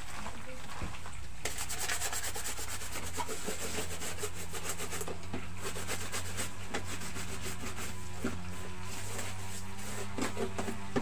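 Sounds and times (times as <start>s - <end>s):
rhythmic scraping: 1.5s - 11.0s.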